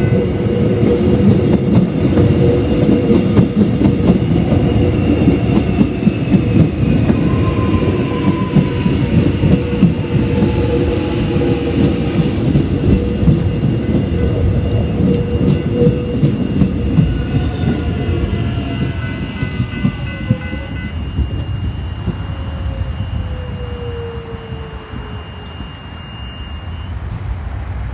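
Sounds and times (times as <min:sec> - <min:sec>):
high tones and falling whines: 0:00.0 - 0:27.4.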